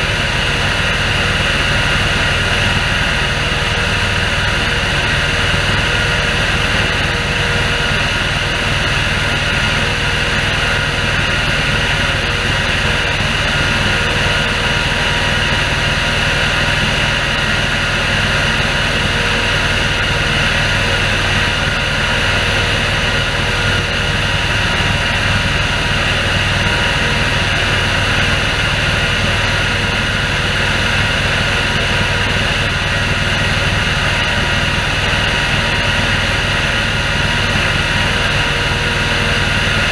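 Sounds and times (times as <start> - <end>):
engine droning: 0.0 - 39.9
sprayer fan blowing: 0.0 - 39.9.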